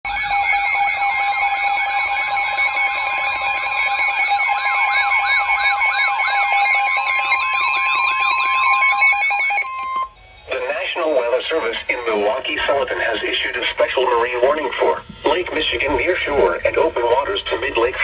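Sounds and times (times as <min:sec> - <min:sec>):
steady alarm tone: 0:00.1 - 0:18.0
warbling siren: 0:00.1 - 0:18.0.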